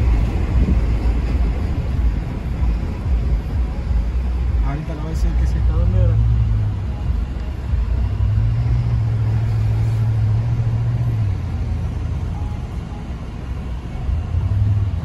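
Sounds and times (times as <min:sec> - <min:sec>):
pickup truck engine rumble: 0:00.0 - 0:15.0.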